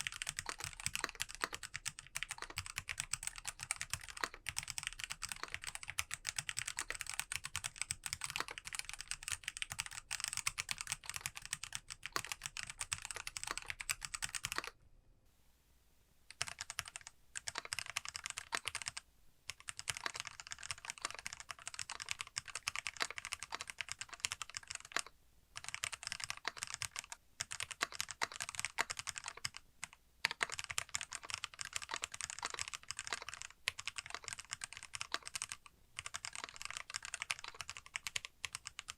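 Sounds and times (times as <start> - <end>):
mechanical keyboard typing: 0.0 - 14.8, 16.3 - 38.9.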